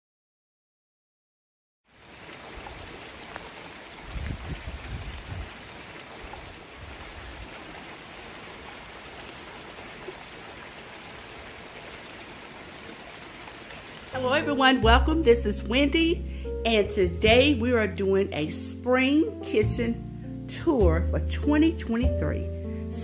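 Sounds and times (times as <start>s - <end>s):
steady outdoor hiss: 1.9s - 20.4s.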